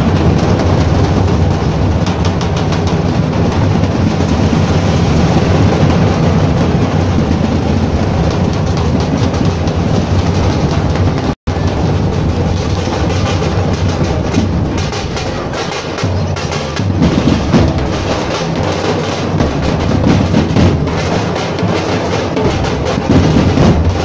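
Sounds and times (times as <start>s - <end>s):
deep drum beats: 0.0s - 24.0s
rapid drum strokes: 0.0s - 24.0s.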